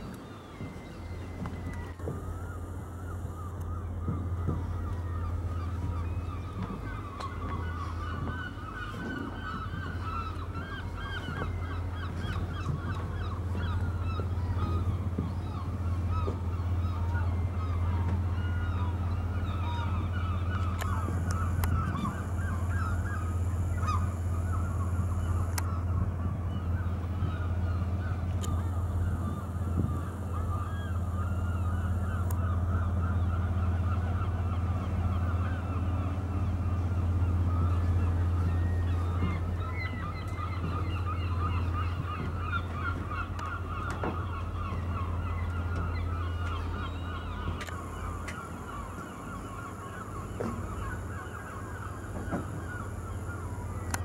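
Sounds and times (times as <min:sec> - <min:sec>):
gulls calling: 0:00.0 - 0:54.0
low machine hum: 0:00.0 - 0:54.0.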